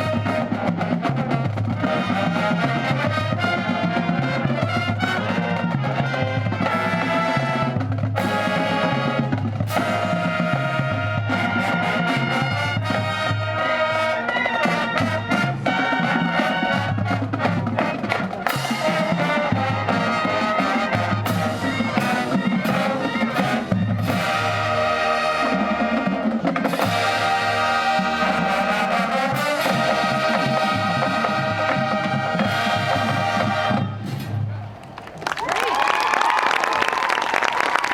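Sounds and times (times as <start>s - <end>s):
brass holding loud chords: 0.0s - 34.6s
drum-line percussion strokes: 0.0s - 35.2s.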